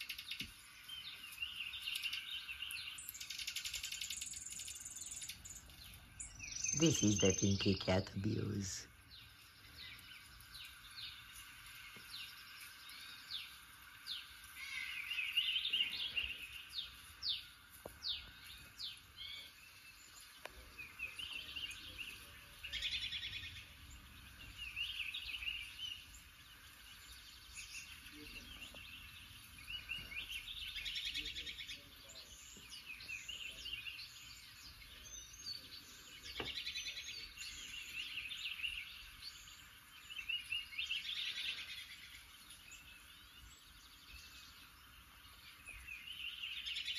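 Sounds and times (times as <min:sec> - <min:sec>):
songbird chirps through speakers: 0:00.0 - 0:46.9.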